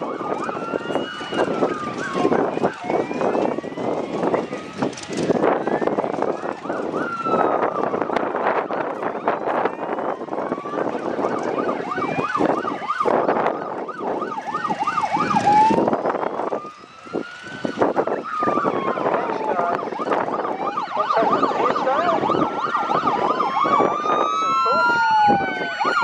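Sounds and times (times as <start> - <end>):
fast yelp sirens: 0.0 - 26.0
wail sirens rising and falling: 0.0 - 26.0.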